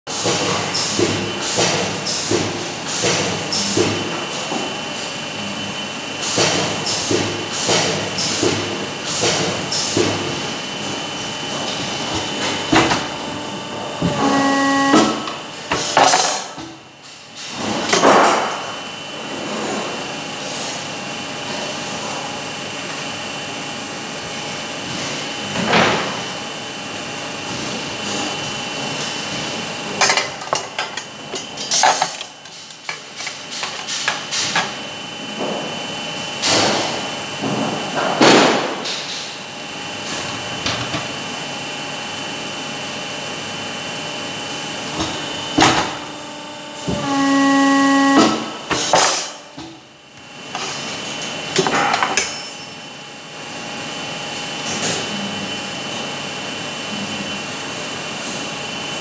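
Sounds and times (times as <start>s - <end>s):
workshop machinery hum: 0.1s - 59.0s.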